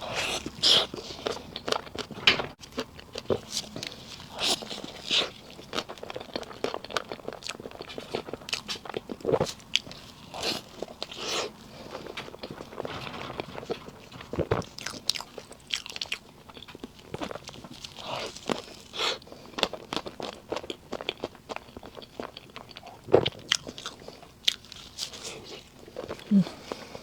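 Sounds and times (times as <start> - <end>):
person chewing cake: 0.0 - 27.0.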